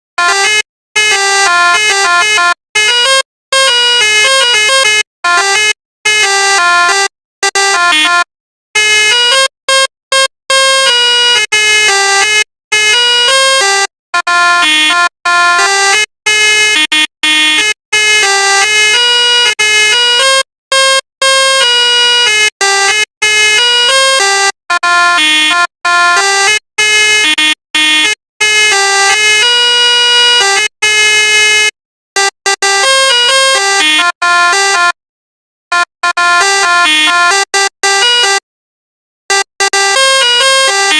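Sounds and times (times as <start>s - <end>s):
multi-tone bus horn tune: 0.2s - 35.0s, 35.7s - 38.5s, 39.2s - 40.9s.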